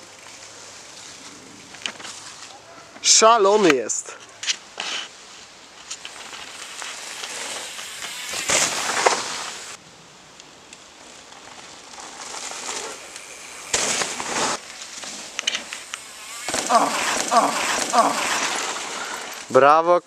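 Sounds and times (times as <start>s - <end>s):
bike tyres over dry leaves: 0.0s - 19.6s.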